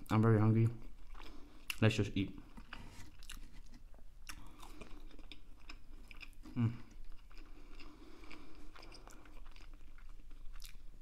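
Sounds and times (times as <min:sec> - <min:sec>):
person chewing food: 0:00.6 - 0:11.0.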